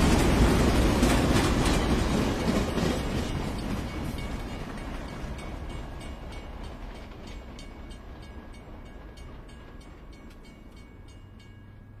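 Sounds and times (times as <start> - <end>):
train rumbling with wheel clicks: 0.0 - 12.0.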